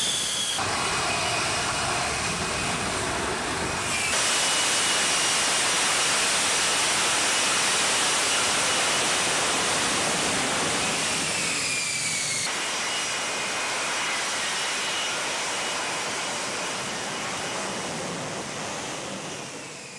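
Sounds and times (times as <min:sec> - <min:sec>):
jet engine roar with whine: 0:00.0 - 0:19.9.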